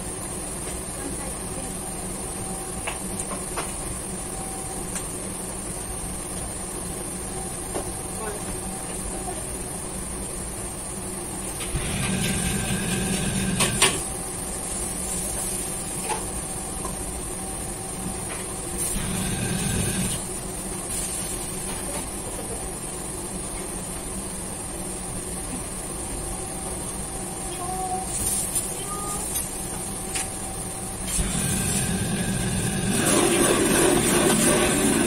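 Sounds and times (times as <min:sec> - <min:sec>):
exhaust hood and burner roar: 0:00.0 - 0:35.0.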